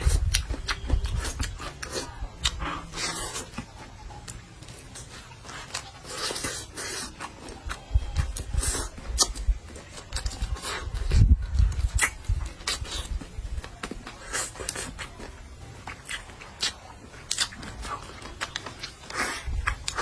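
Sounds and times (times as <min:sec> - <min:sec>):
wet chewing and mouth smacks: 0:00.0 - 0:20.0.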